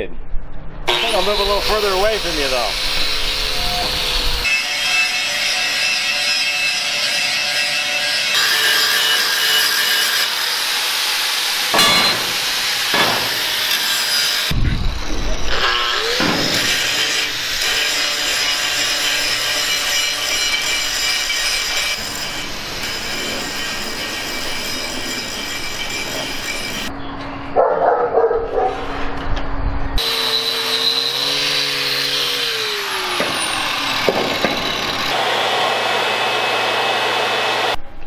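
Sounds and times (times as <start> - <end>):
angle grinder on steel: 0.9 - 26.9, 30.0 - 37.8.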